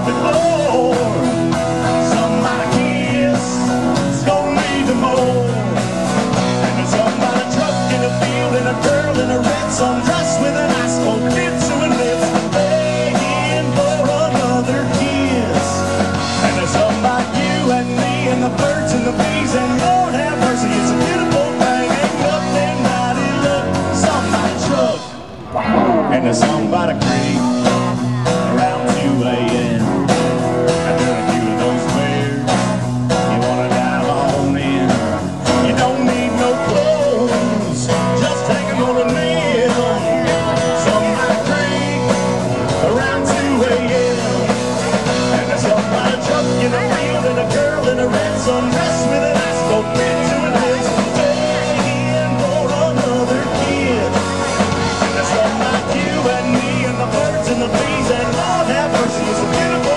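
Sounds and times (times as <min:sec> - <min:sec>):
band playing country-rock: 0:00.0 - 0:59.9
guitar: 0:00.0 - 0:59.9
steady drum beat: 0:00.0 - 0:59.9.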